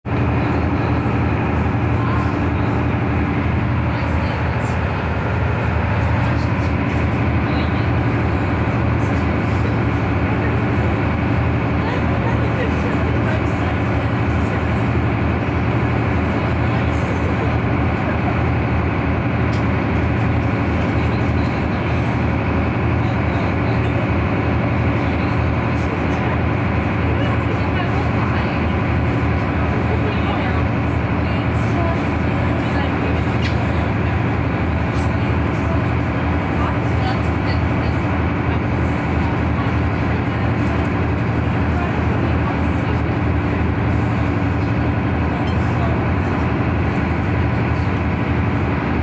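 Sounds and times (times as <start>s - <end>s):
boat engine humming: 0.0s - 49.0s.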